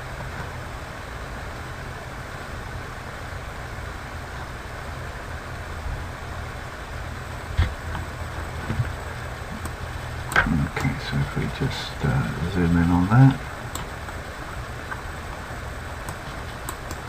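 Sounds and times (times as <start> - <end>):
faint hiss: 0.0 - 17.0
low background rumble: 0.0 - 17.0.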